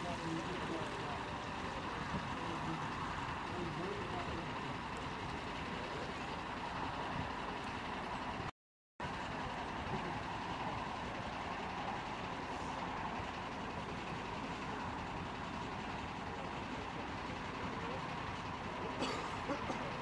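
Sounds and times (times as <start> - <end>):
steady outdoor noise: 0.0 - 20.0.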